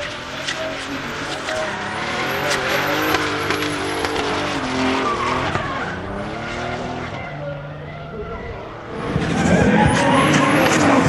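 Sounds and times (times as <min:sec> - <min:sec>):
car engine revving: 0:00.0 - 0:11.0
tyres screeching: 0:00.0 - 0:11.0.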